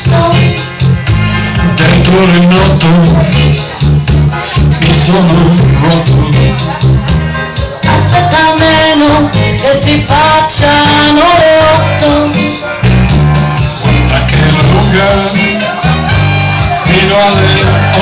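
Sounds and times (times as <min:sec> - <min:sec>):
latin-style music: 0:00.0 - 0:18.0.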